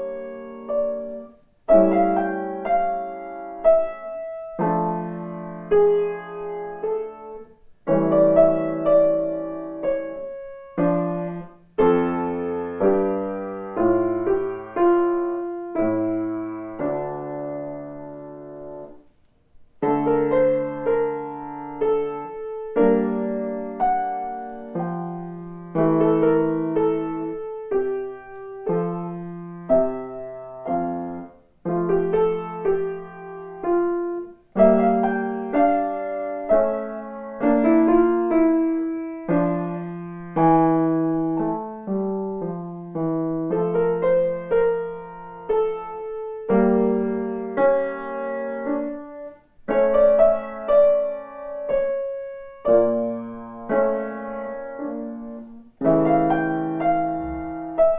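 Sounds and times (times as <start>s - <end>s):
slow classical piano piece: 0.0s - 57.9s.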